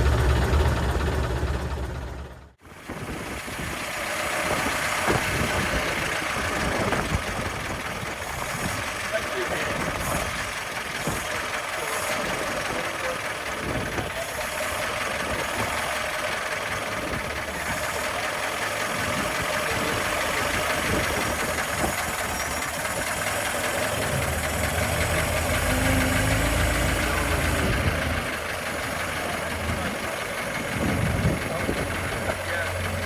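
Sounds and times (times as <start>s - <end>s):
bus engine running: 0.0s - 33.0s.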